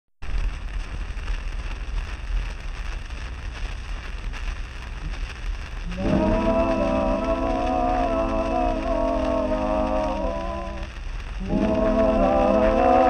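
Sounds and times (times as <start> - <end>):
record crackle and hiss: 0.2 - 13.0.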